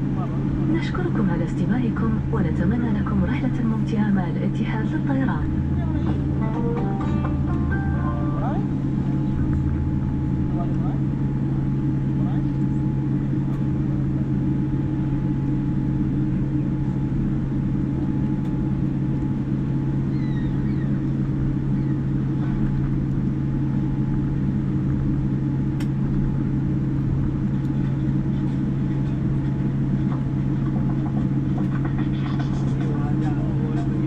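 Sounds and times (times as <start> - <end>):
airplane cabin low drone: 0.0 - 34.0.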